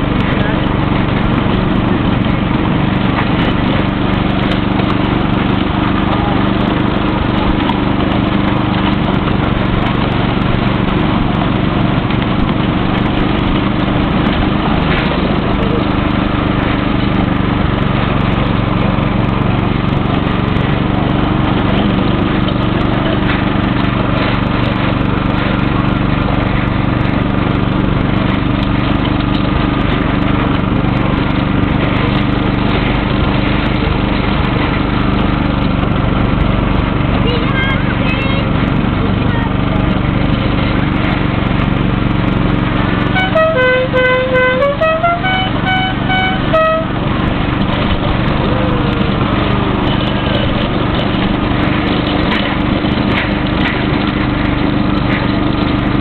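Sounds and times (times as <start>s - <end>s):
miniature locomotive engine running: 0.0s - 56.0s.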